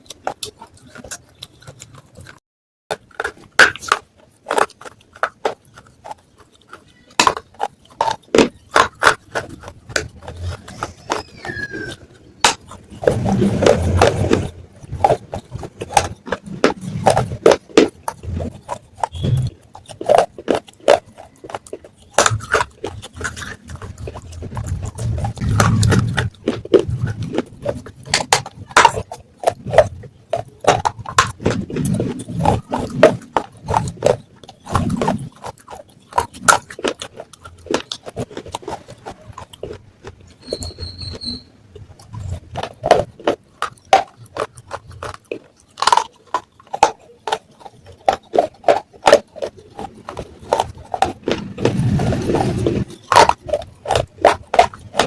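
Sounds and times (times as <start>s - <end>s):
clay pot pieces cracking: 0.0s - 55.0s.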